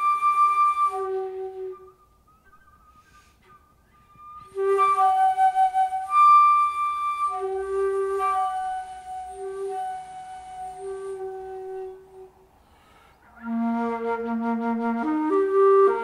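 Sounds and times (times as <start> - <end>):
slow flute melody: 0.0 - 16.0.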